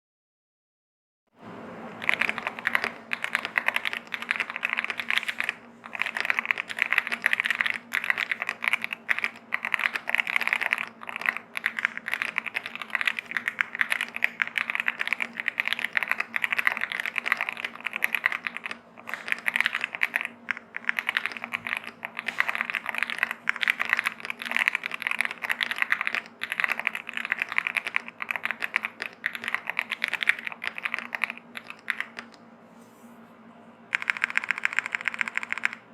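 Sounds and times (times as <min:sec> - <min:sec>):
fast typing on mechanical keyboard: 0:02.0 - 0:32.4, 0:33.9 - 0:35.9.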